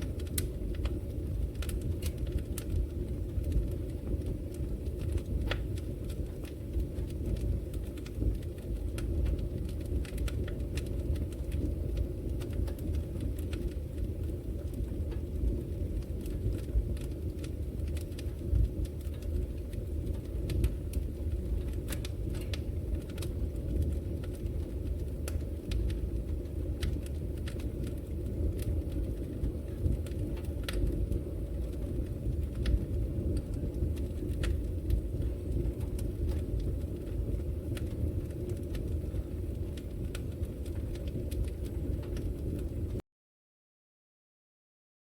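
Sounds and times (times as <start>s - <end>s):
wood fire roaring and crackling: 0.0s - 43.0s.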